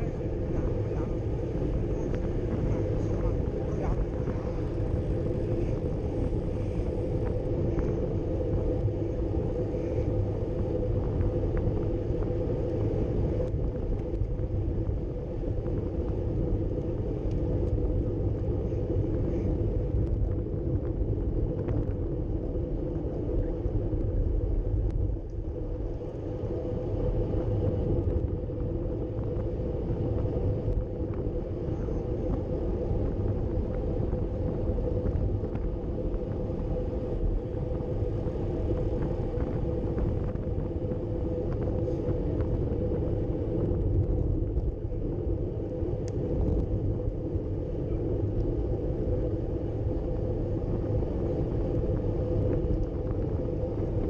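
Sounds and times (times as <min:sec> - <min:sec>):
bike tyres rolling on asphalt: 0:00.0 - 0:54.0
wind rushing over microphone: 0:00.0 - 0:54.0.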